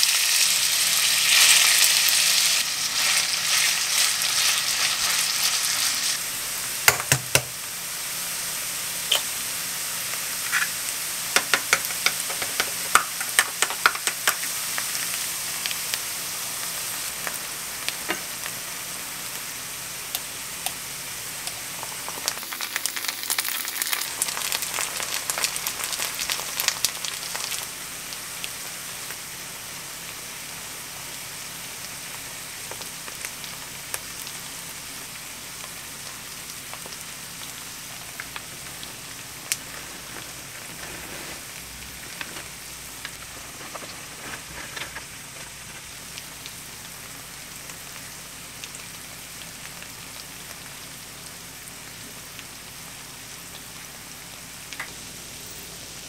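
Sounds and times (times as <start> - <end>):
potato sizzling in a pan: 0.0 - 56.0.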